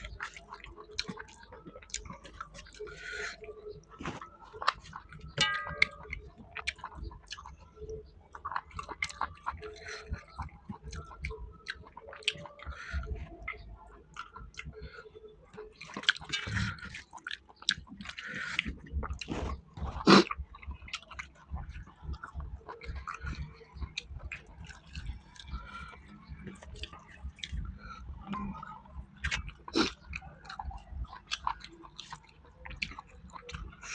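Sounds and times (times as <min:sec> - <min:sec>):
wet smacking chewing: 0:00.0 - 0:33.9.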